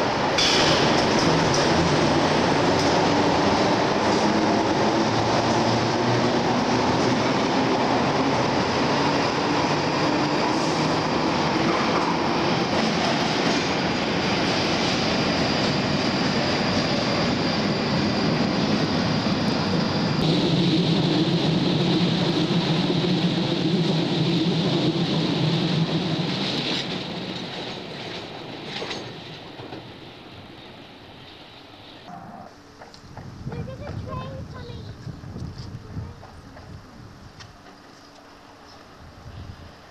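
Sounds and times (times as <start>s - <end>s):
train wheels rumbling in tunnel: 0.0s - 39.9s.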